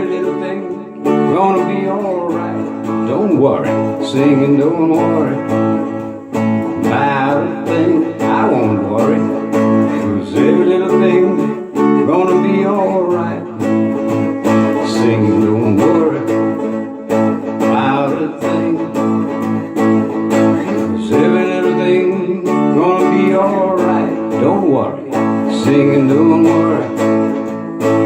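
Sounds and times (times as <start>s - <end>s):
acoustic guitar strumming: 0.0s - 28.0s
person singing wordlessly: 0.0s - 28.0s.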